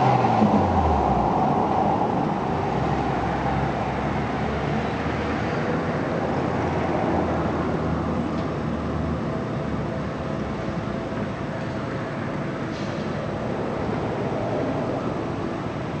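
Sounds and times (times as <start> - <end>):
train rumbling: 0.0 - 8.0, 9.2 - 16.0
road traffic: 0.0 - 16.0.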